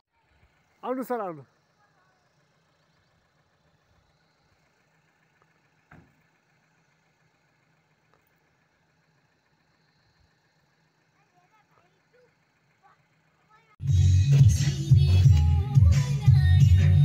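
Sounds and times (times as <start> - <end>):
distant truck engine idling: 0.1 - 17.0.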